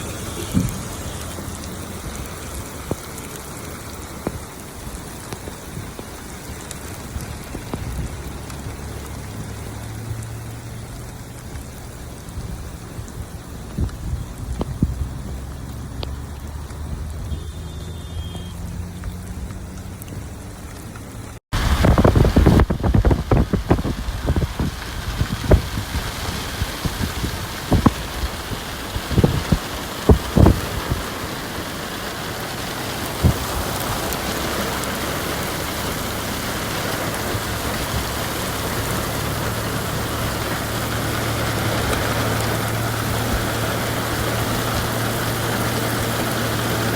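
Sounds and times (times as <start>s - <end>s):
raindrops tapping a surface: 0.0s - 46.9s
steady rain hiss: 0.0s - 46.9s.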